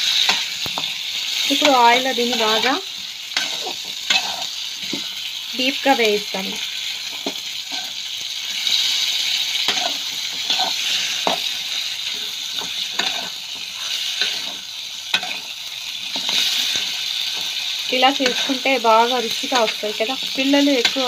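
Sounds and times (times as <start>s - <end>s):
spatula scraping a pan: 0.0s - 5.3s, 6.6s - 21.0s
chicken sizzling in hot oil: 0.0s - 21.0s.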